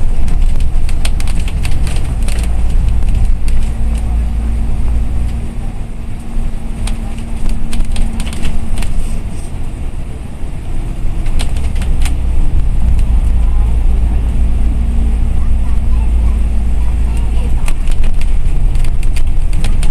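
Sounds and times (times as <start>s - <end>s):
bus engine and road rumble: 0.0s - 19.9s
constant hum: 0.0s - 19.9s.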